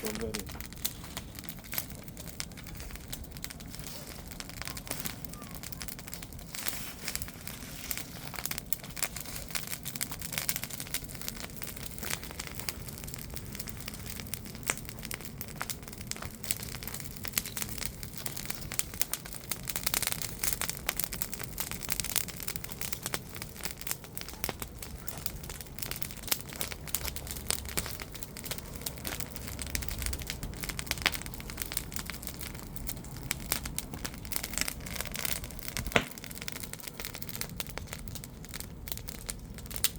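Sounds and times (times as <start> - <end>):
bonfire crackling and popping: 0.0 - 39.9
low rumble of flames: 0.0 - 39.9.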